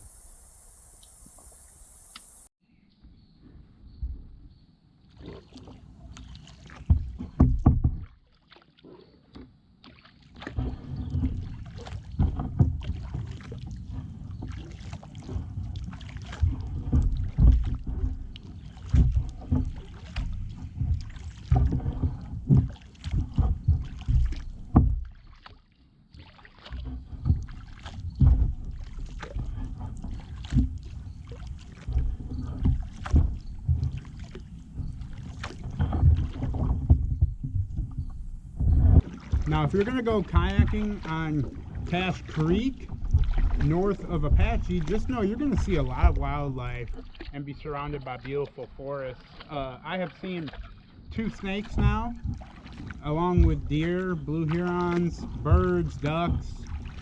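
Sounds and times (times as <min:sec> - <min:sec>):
kayak paddle strokes in water: 0:00.0 - 0:02.5, 0:05.0 - 0:57.0
paddle knocking: 0:05.7 - 0:08.6, 0:09.3 - 0:25.6, 0:26.2 - 0:57.0.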